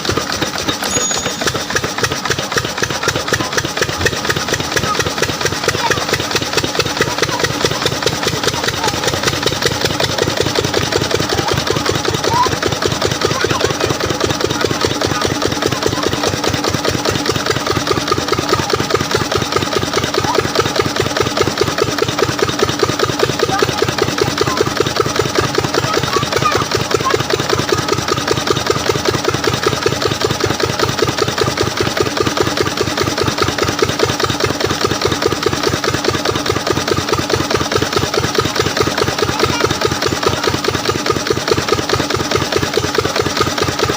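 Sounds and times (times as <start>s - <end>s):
diesel water pump engine running: 0.0s - 43.9s.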